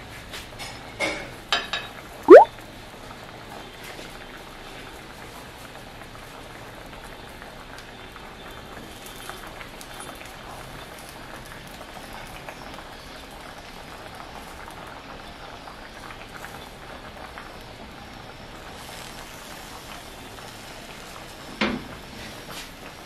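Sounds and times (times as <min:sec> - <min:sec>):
food sizzling in a wok: 0:02.9 - 0:23.0.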